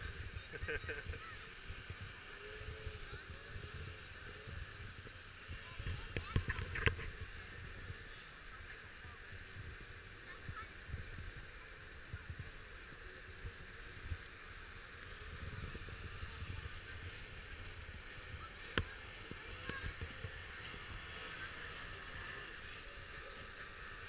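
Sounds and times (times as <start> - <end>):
wind gusting on microphone: 0.0 - 24.0.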